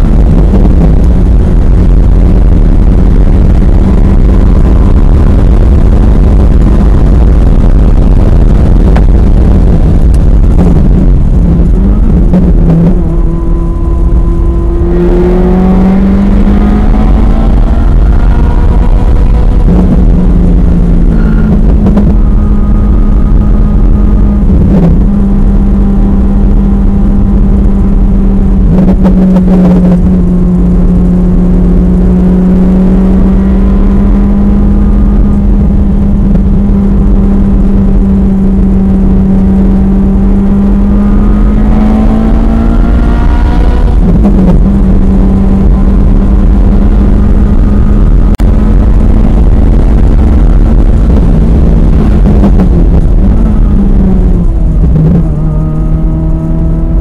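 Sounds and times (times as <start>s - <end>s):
race car engine from cabin: 0.0s - 57.0s.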